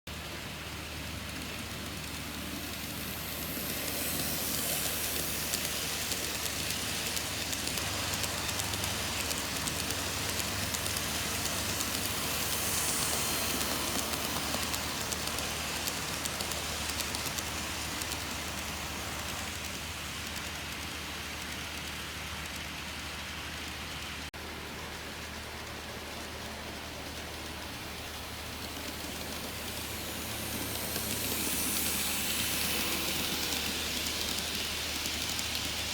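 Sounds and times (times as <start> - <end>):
model train running on track: 0.1 - 35.9
rail clicking: 0.9 - 24.3, 25.3 - 35.9.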